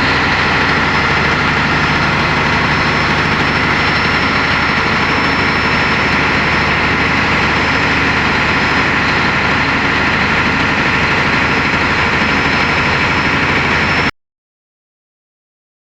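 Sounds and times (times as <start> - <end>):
diesel engine idling: 0.0 - 14.1.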